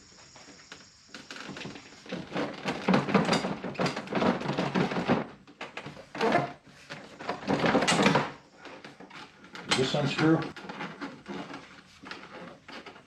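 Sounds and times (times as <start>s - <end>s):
clicks and knocks of hand work: 1.5s - 13.0s.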